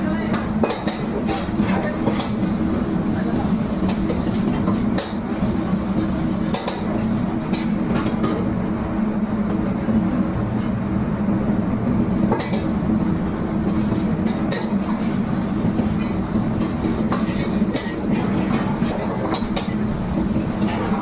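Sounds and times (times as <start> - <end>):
low mechanical rumble: 0.0 - 21.0.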